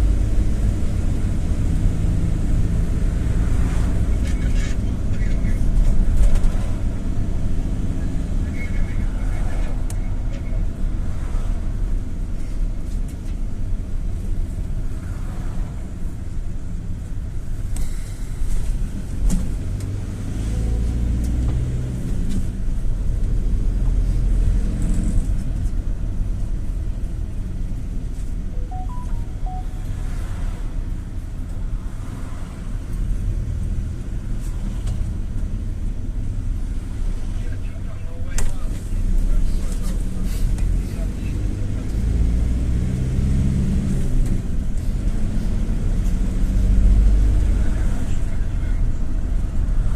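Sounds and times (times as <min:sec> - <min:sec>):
engine and road rumble: 0:00.0 - 0:49.9.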